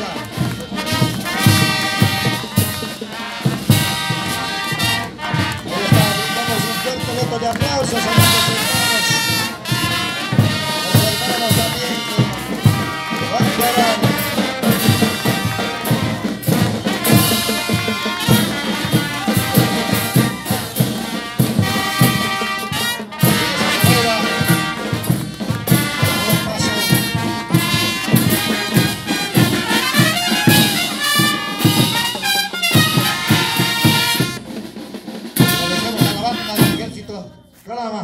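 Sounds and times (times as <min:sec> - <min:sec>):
brass band playing: 0:00.0 - 0:37.4.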